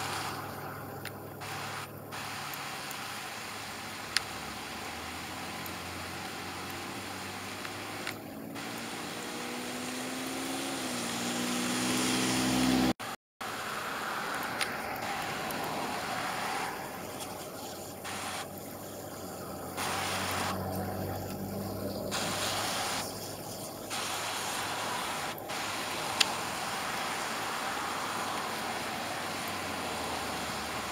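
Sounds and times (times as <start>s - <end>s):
creek water rushing: 0.0s - 30.9s
engine hum: 0.0s - 30.9s.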